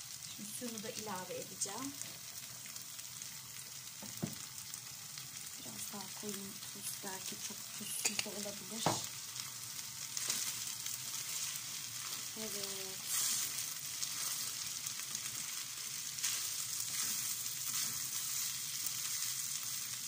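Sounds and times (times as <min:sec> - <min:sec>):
rice sizzling in butter: 0:00.0 - 0:20.0.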